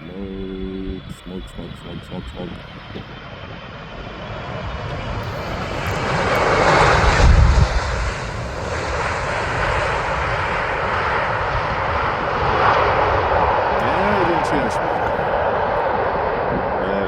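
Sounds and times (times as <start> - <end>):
jet engines of landing airliner: 0.0 - 17.0.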